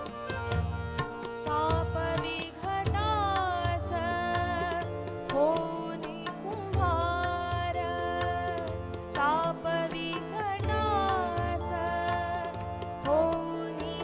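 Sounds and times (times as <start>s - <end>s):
ornamented melody line: 0.0s - 14.0s
tabla bass strokes: 0.0s - 14.0s.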